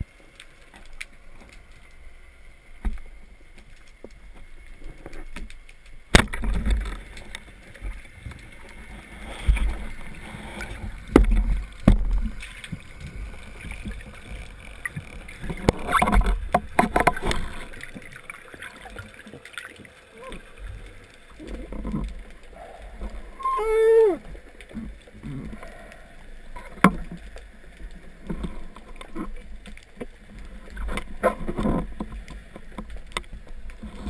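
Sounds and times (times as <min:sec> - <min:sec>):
low water rumble: 0:00.0 - 0:34.0.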